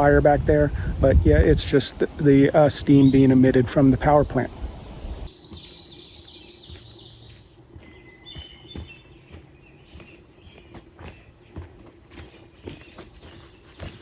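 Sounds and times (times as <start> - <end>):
high-pitched woodland hiss: 0.0 - 14.0
songbirds chirping: 0.0 - 14.0.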